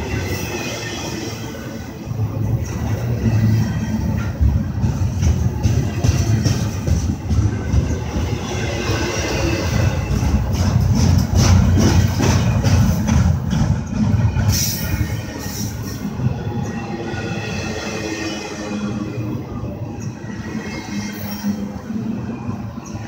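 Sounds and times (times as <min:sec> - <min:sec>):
freight train wheels rumbling: 0:00.0 - 0:23.0
train cars rattling and clanking: 0:00.0 - 0:23.0.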